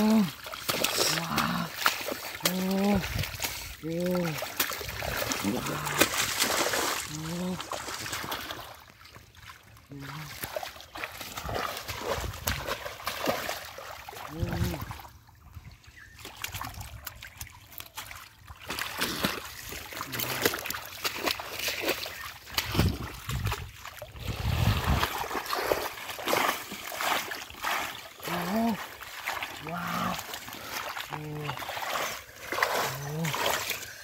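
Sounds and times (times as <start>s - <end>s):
hands splashing in shallow water: 0.0s - 15.0s, 16.2s - 34.0s
water dribbling: 0.0s - 34.0s.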